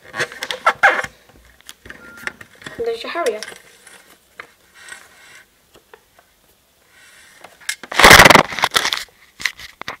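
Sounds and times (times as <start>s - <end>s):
rustling and crackling handling noise: 0.0s - 6.6s, 7.3s - 10.0s.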